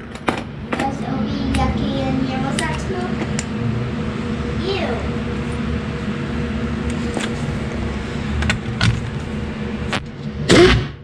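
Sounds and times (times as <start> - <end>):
shop background hum: 0.0 - 11.0.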